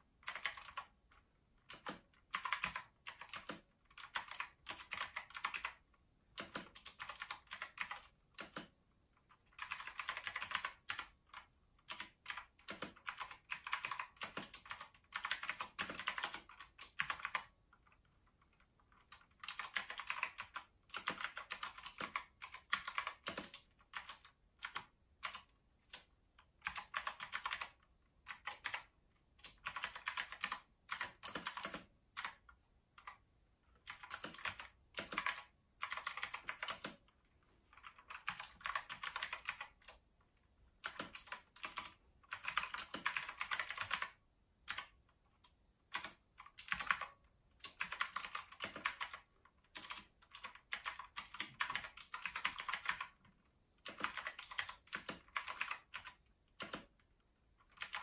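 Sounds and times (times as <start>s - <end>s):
mechanical keyboard typing: 0.2s - 40.1s, 40.7s - 58.0s.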